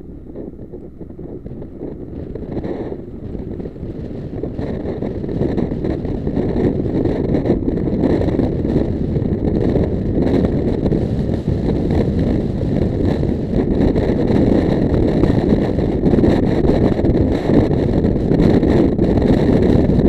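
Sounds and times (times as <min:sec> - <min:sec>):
car interior road and engine noise: 0:00.0 - 0:20.0.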